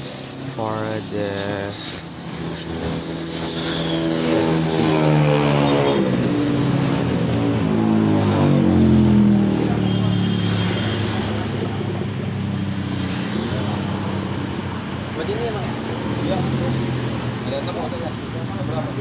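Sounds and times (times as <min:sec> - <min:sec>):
passing vehicle engine: 0:00.0 - 0:19.0.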